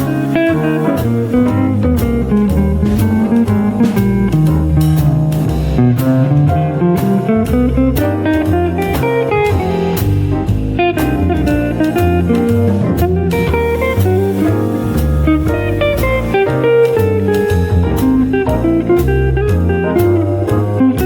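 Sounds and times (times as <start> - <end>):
drum strokes: 0.0 - 21.0
guitar playing melody: 0.0 - 21.0
walking bass line: 0.0 - 21.0.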